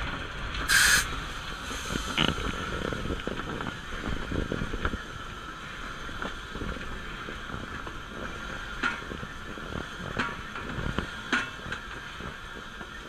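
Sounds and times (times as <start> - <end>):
steam locomotive rumble and rattle: 0.0 - 13.0.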